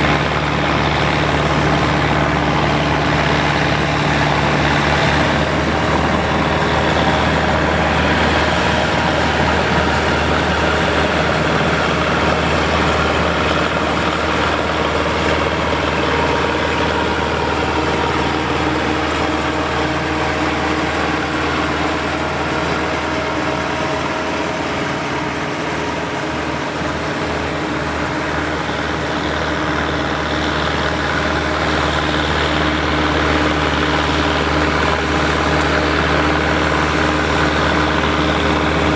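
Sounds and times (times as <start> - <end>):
harvest machinery engine hum: 0.0 - 38.9.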